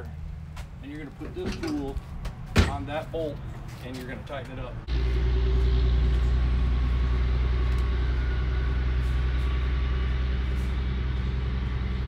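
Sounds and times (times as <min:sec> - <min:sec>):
low mechanical engine drone: 0:00.0 - 0:12.0.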